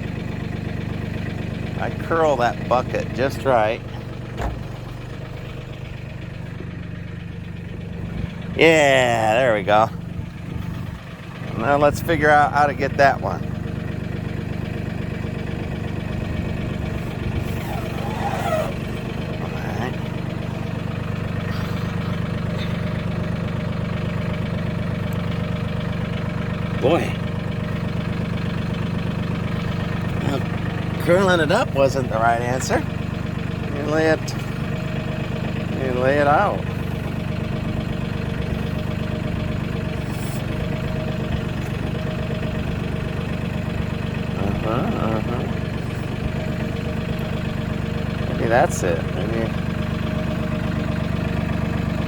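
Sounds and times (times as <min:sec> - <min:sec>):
tractor diesel engine idling: 0:00.0 - 0:52.0.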